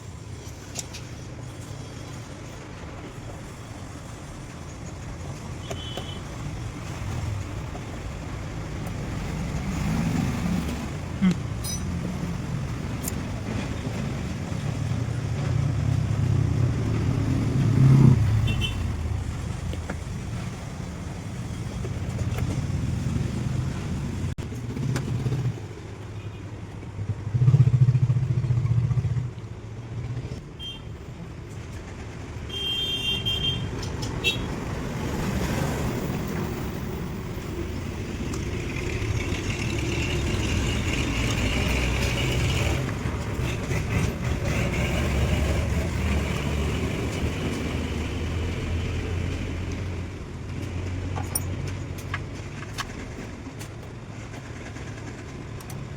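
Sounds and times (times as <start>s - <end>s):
vehicle engine rumble: 0.0s - 55.9s.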